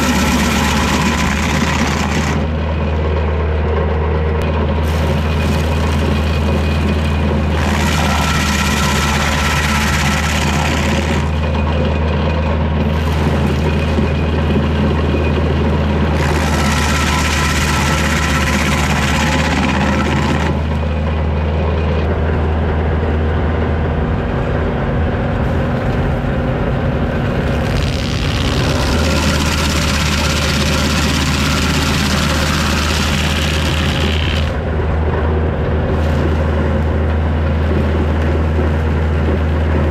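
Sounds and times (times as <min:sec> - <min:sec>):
stump grinder grinding wood: 0:00.0 - 0:22.1, 0:27.1 - 0:39.9
tractor diesel engine running: 0:00.0 - 0:39.9.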